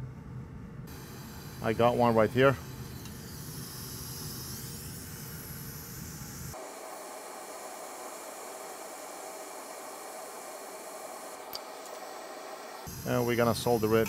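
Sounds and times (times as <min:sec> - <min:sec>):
low hum: 0:00.0 - 0:14.0
blowing air hiss: 0:00.9 - 0:14.0.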